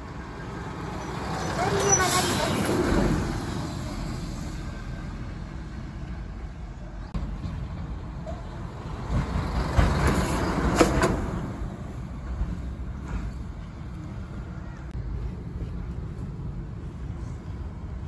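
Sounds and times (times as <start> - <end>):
heavy truck passing: 0.0 - 18.0
road traffic noise: 0.0 - 18.0.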